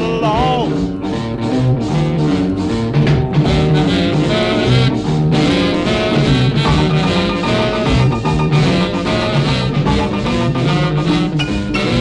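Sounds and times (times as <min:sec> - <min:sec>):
saxophones riffing over boogie beat: 0:00.0 - 0:12.0.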